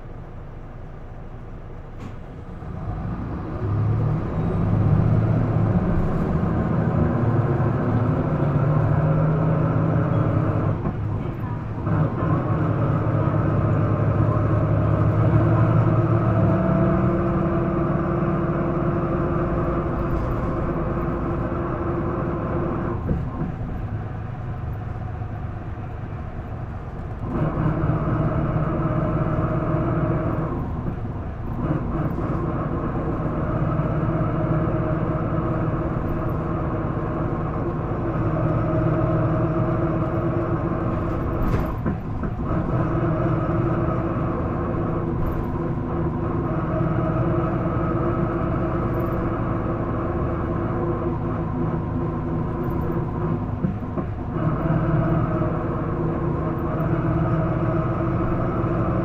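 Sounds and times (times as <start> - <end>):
bus diesel engine: 0.0 - 59.0.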